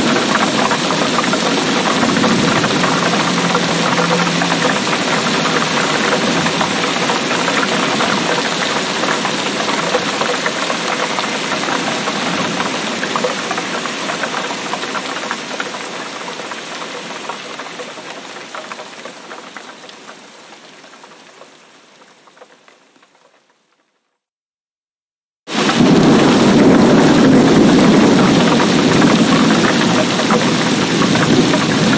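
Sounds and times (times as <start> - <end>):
heavy rain on hard surface: 0.0 - 24.3, 25.5 - 31.9.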